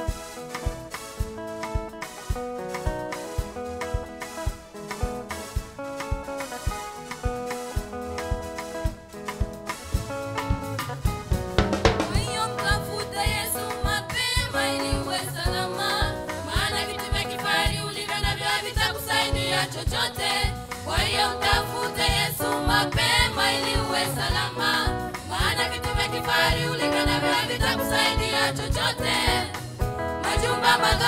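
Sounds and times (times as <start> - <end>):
drum kit with snare and cymbals: 0.0 - 31.0.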